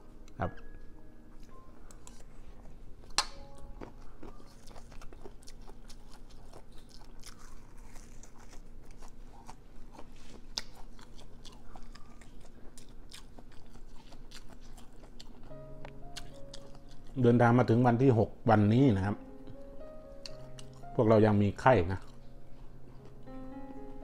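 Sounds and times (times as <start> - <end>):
person chewing crunchy greens: 1.4 - 17.3, 19.4 - 21.0, 21.8 - 23.9.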